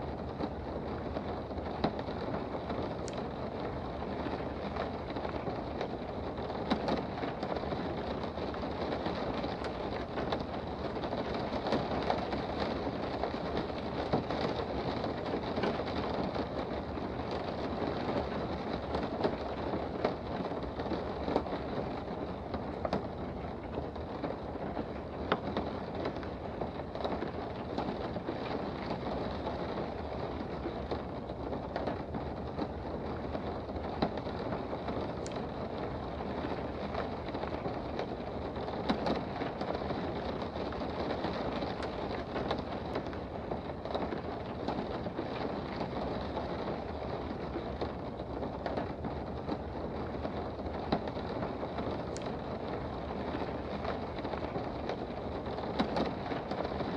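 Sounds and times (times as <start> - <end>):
raindrops ticking close by: 0.0 - 56.9
steady rain hiss: 0.0 - 56.9.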